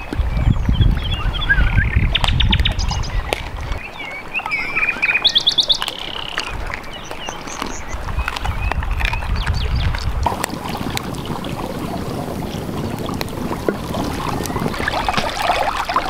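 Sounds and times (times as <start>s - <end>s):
wind rumble on microphone: 0.0s - 4.6s, 6.4s - 16.0s
small birds chirping and trilling: 0.0s - 16.0s.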